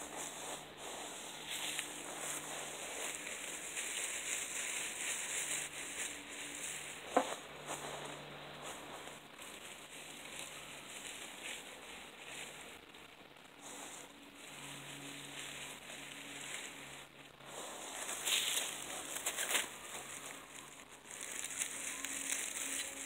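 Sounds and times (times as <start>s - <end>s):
fabric and dry leaves rustling: 0.0s - 23.0s.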